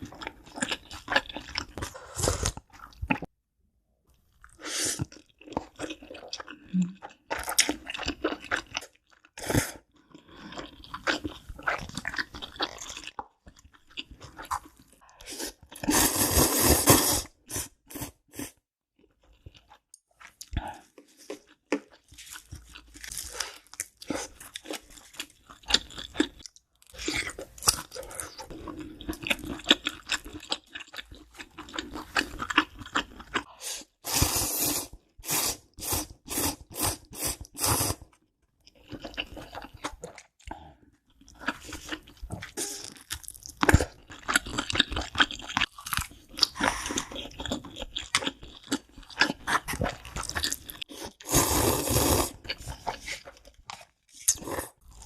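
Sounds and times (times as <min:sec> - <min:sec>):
crunching and chewing food: 0:00.0 - 0:03.3, 0:04.3 - 0:16.0, 0:19.0 - 0:33.6, 0:37.0 - 0:55.0.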